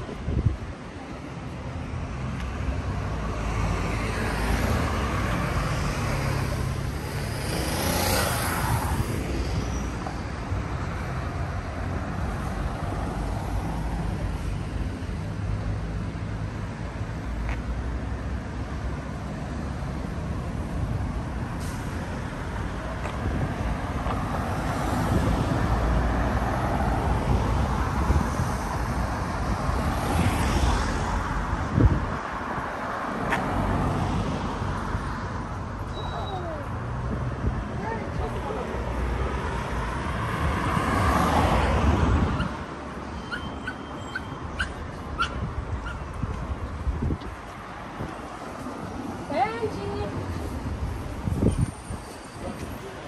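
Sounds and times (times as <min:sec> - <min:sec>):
traffic rumble: 0:00.0 - 0:53.0
vehicles passing close: 0:00.0 - 0:53.0.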